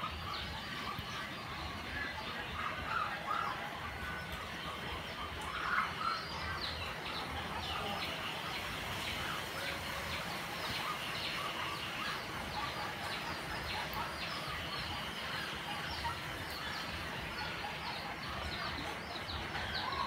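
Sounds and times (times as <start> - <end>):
small birds chirping: 0.0 - 20.0
steady background hiss: 0.0 - 20.0.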